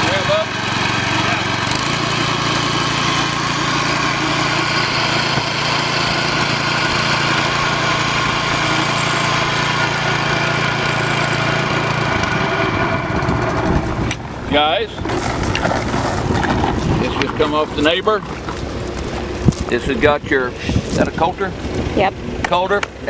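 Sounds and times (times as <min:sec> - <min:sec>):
string trimmer engine running: 0:00.0 - 0:23.0.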